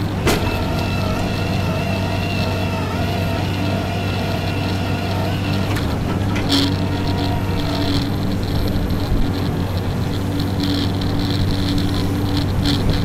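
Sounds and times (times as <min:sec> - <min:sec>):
heavy diesel engine running: 0:00.0 - 0:13.0
sharp clatter: 0:00.0 - 0:13.0.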